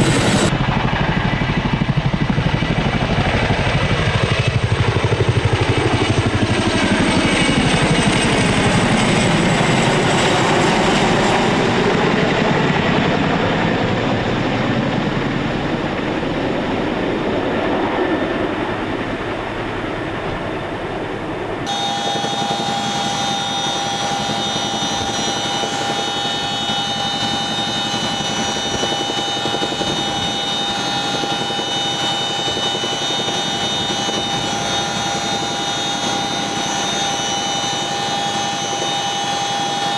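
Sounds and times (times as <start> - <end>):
helicopter rotor roar: 0.0 - 39.9
high turbine whine: 0.0 - 39.9.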